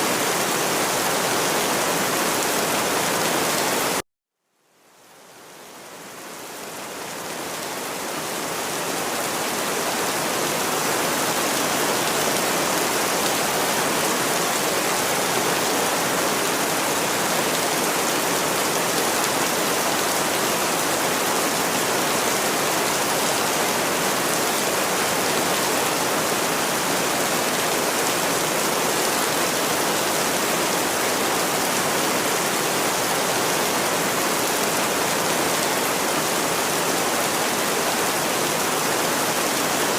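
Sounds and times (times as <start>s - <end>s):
steady rain falling: 0.0s - 4.0s, 4.6s - 39.9s.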